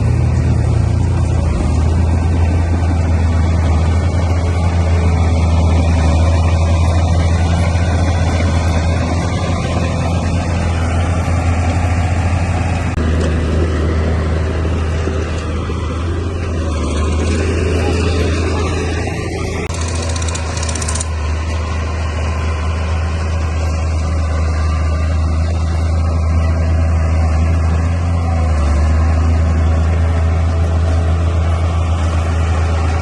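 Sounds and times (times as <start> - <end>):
bulldozer diesel engine hum: 0.0 - 33.0.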